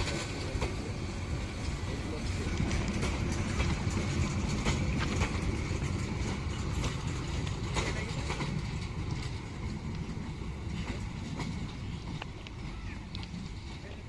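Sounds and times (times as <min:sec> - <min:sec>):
sharp rail clacks: 0:00.0 - 0:14.0
train rumbling on rails: 0:00.0 - 0:14.0.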